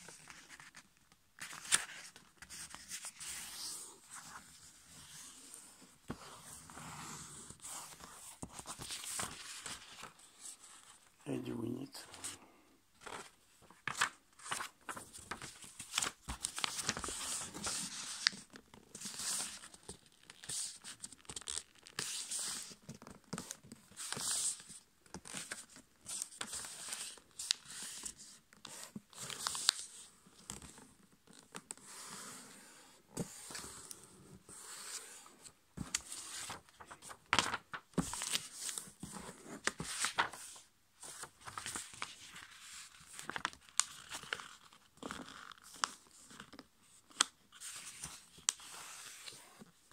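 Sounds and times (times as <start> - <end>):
paper rustling and crinkling: 0.0 - 6.6, 7.5 - 11.0, 13.0 - 31.6, 35.8 - 49.7.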